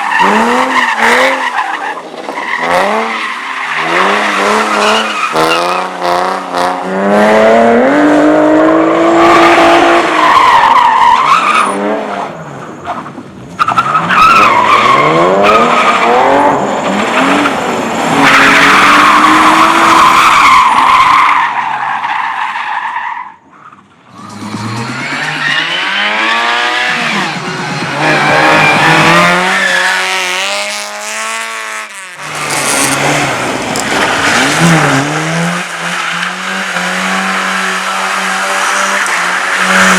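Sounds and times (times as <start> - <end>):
car engines revving: 0.0 - 22.0, 23.8 - 39.9.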